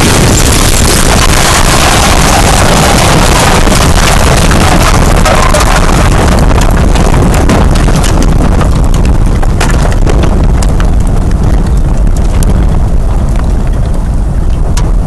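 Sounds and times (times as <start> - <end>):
debris knocks and clicks: 0.0 - 15.0
wind blasting the microphone: 0.0 - 15.0.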